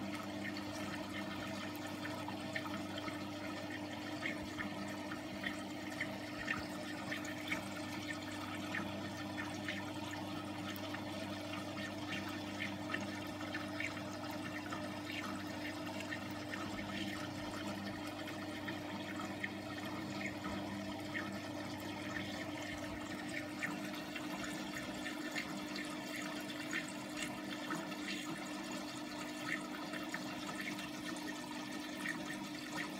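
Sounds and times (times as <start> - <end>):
pump motor hum: 0.0 - 32.9
water splashing and bubbling: 0.0 - 32.9.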